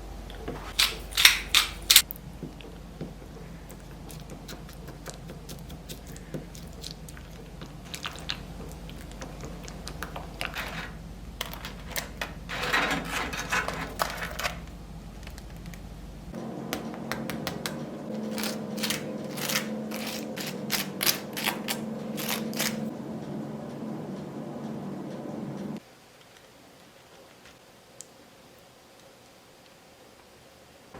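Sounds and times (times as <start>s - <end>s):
low hum: 0.0s - 25.8s.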